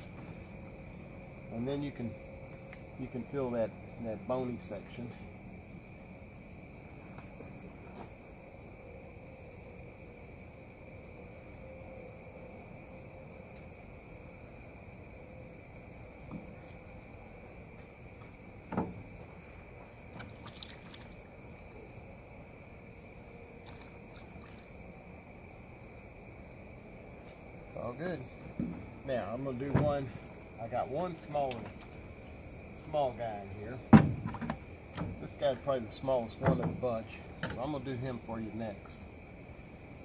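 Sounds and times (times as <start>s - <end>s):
night insects trilling: 0.0s - 40.0s.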